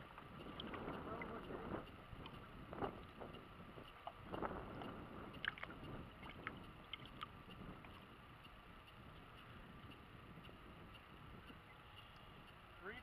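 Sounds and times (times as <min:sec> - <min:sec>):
wind on microphone: 0:00.0 - 0:12.8
water lapping against boat hull: 0:00.0 - 0:13.0.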